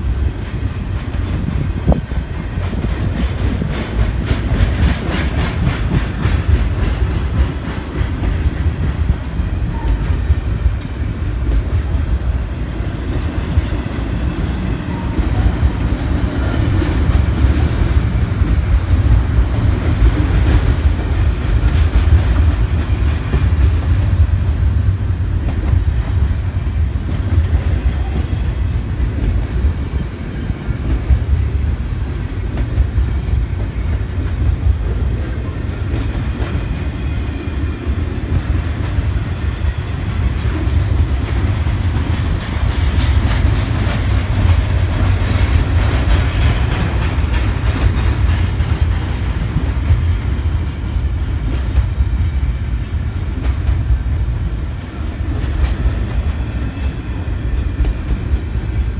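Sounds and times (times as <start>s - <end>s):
freight train rumbling past: 0.0s - 58.9s
wheel and rail noise: 0.0s - 58.9s.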